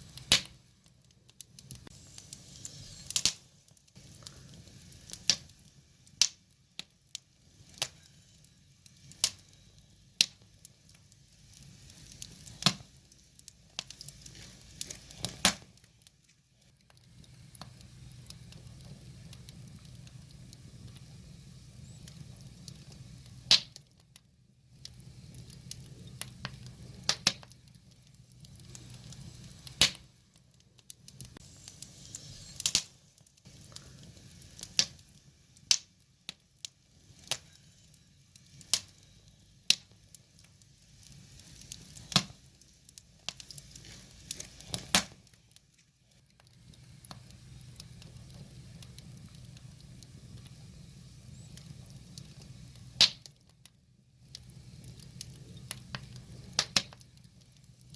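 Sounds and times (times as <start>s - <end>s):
firewood crackling and popping: 0.0s - 57.9s
low rumble of flames: 0.0s - 57.9s.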